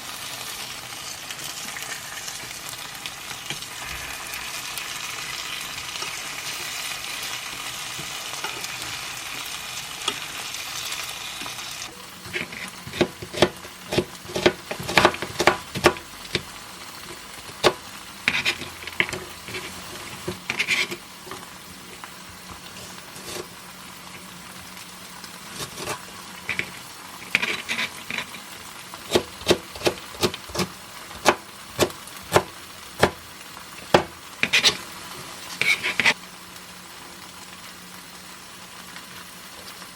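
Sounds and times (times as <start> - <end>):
tofu sizzling in a pan: 0.0 - 39.9.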